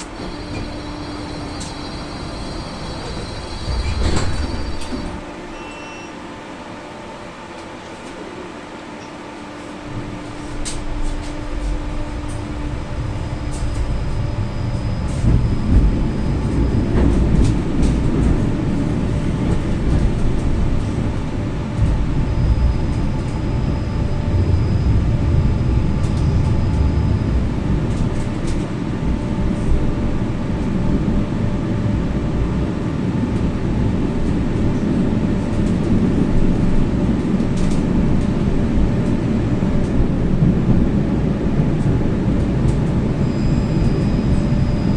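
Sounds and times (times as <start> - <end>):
tram wheels rumbling on rails: 0.0 - 44.9.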